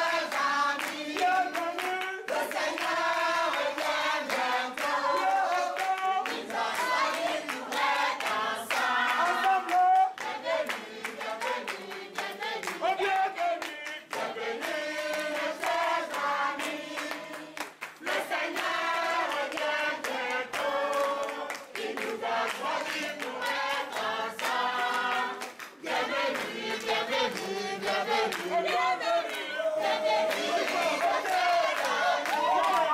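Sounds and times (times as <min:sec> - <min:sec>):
choir singing: 0:00.0 - 0:32.9
rhythmic hand clapping: 0:00.0 - 0:32.9.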